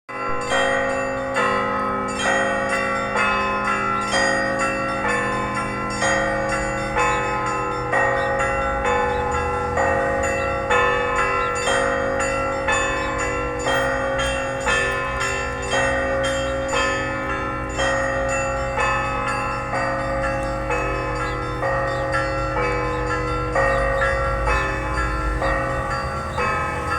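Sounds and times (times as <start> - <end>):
church bells pealing: 0.1 - 26.9.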